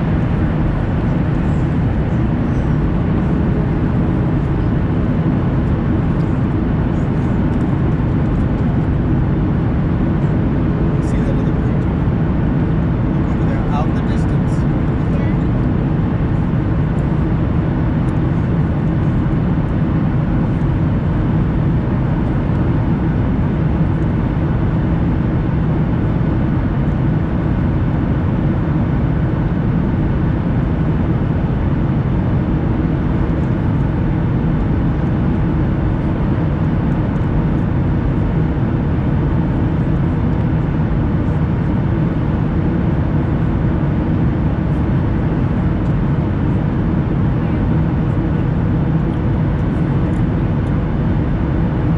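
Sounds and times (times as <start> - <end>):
airliner cabin drone: 0.0 - 51.9.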